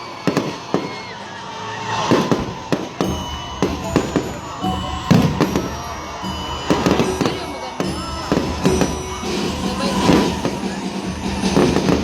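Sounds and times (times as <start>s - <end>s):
fireworks bangs: 0.0s - 12.0s
background music: 2.0s - 12.0s.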